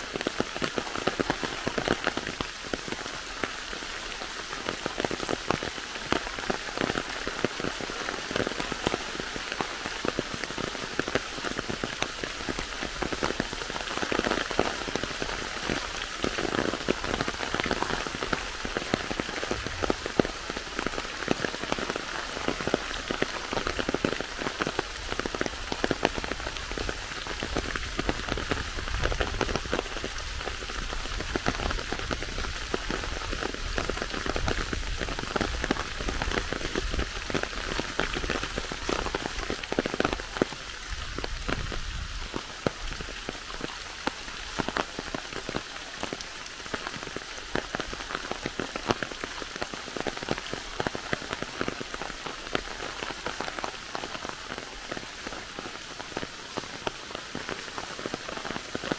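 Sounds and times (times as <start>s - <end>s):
rain pattering on umbrella: 0.0s - 58.9s.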